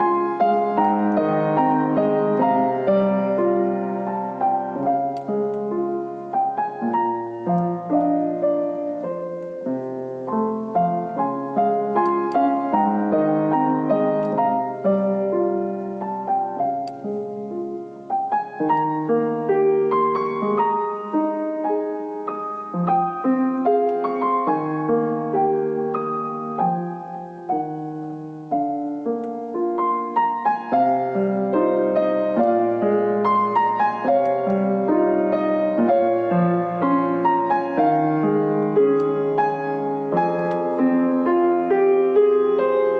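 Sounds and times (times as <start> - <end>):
piano piece: 0.0 - 42.9.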